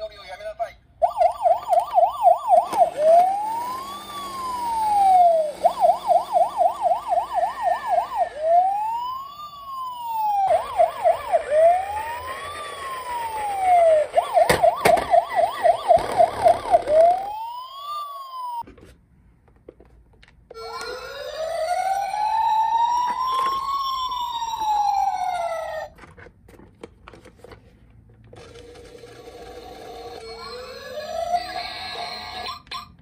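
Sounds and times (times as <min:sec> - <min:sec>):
toy police car siren: 0:01.0 - 0:18.6, 0:20.5 - 0:26.0, 0:28.4 - 0:33.0.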